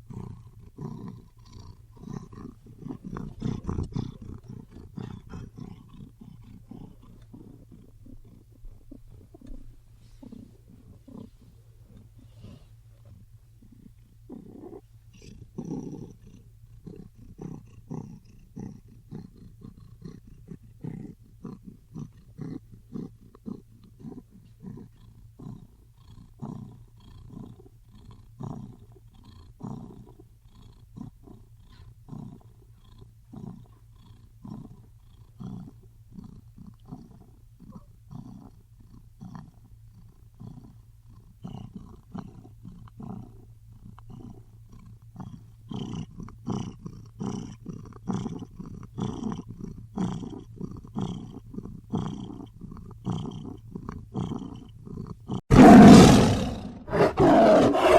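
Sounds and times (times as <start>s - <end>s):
big cat purr-growl: 0.0s - 57.9s.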